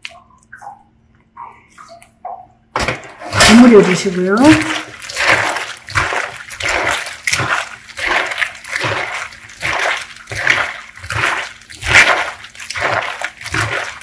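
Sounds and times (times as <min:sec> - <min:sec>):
wet squelching and sloshing: 0:00.0 - 0:14.0.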